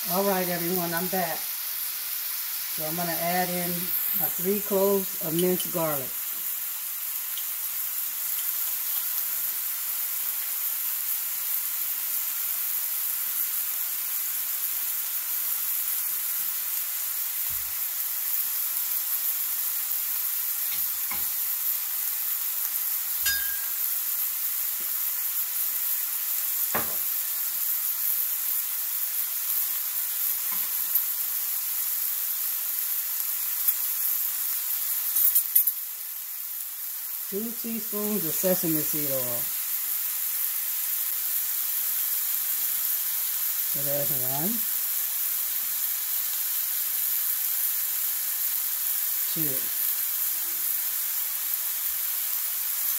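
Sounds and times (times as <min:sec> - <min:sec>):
meat sizzling in a skillet: 0:00.0 - 0:52.9.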